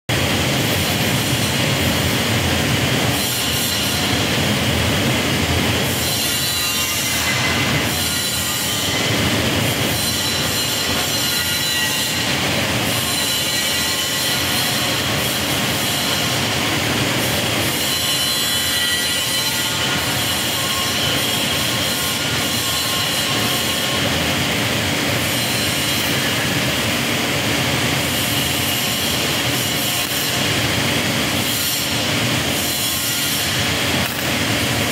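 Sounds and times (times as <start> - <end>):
workshop machinery din: 0.1 - 34.9.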